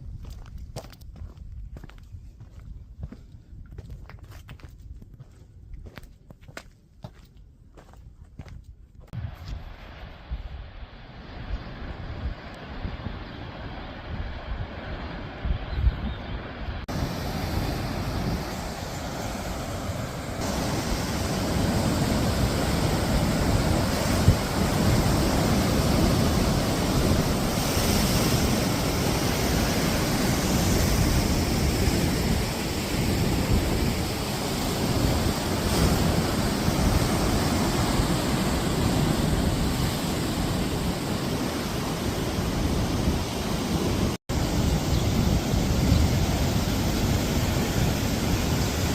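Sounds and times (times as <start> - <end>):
wind buffeting microphone: 0.0 - 6.2, 7.0 - 48.9.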